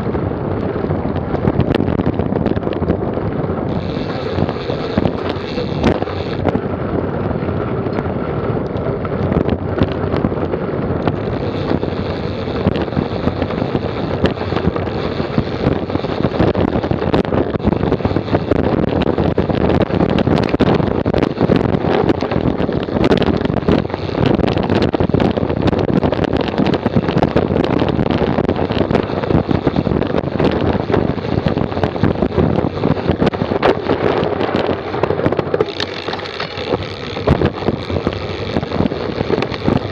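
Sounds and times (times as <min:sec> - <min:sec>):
bike chain rattling: 0:00.0 - 0:39.9
bike tyre rolling on gravel: 0:00.0 - 0:39.9
wind noise on microphone: 0:00.0 - 0:39.9.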